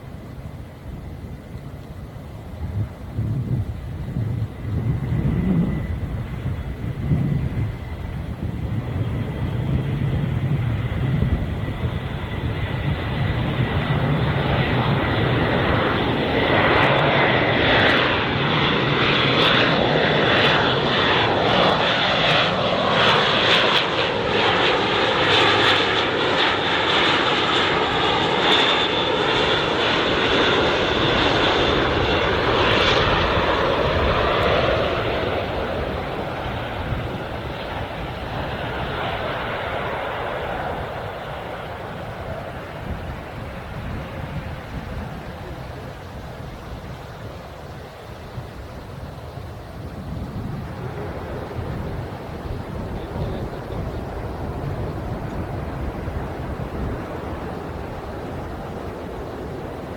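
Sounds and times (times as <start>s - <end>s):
turboprop aircraft passing: 0.0s - 59.9s.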